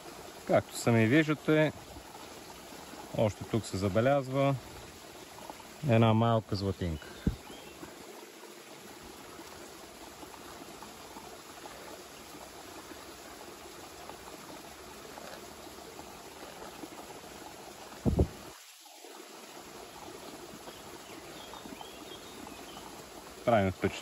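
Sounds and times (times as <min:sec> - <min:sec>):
running swishing water: 0:00.0 - 0:24.0.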